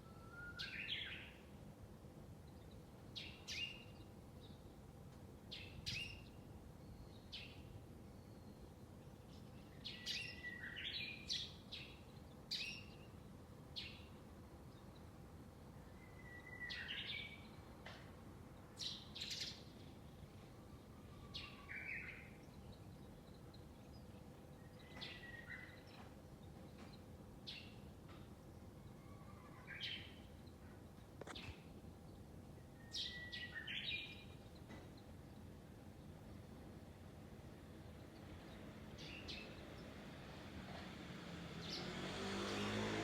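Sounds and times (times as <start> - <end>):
faint low background noise: 0.0 - 43.0.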